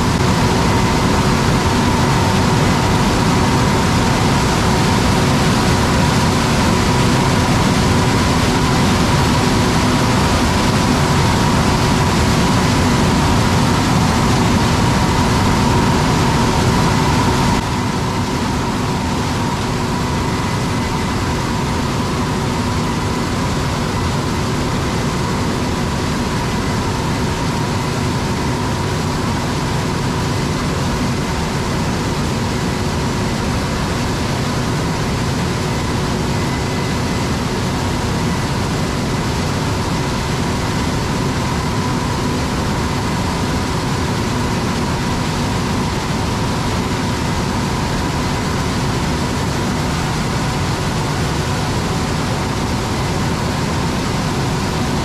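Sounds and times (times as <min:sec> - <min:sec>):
harvester engine drone: 0:00.0 - 0:55.0
machinery whine: 0:00.0 - 0:55.0.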